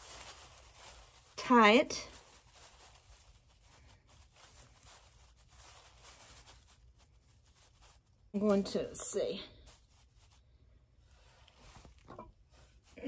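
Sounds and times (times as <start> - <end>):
faint plastic rustling: 0.0 - 13.0.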